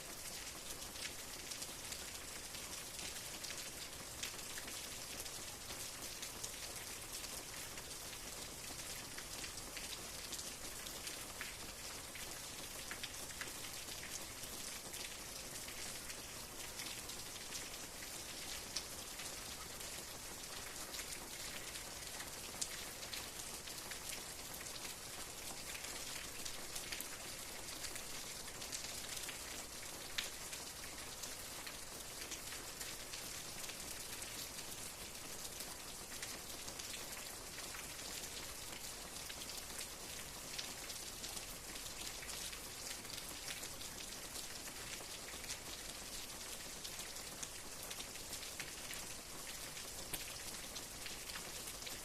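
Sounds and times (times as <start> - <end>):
steady rain hiss: 0.0 - 52.0
raindrops pattering on a surface: 0.1 - 52.0.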